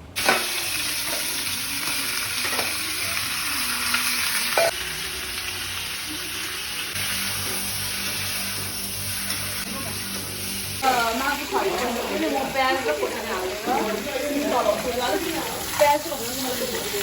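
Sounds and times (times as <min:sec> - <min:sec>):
meat sizzling in hot oil: 0:00.2 - 0:17.0.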